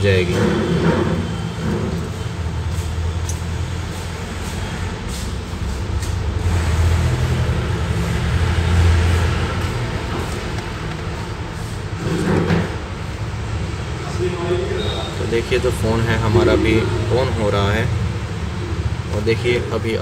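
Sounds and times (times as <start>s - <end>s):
low rumble of road traffic: 0.0s - 20.0s
vehicle passing: 0.0s - 20.0s.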